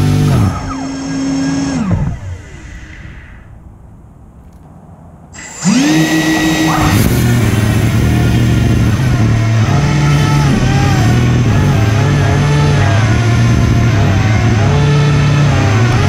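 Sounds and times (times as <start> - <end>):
electric fans whining: 0.0 - 16.0.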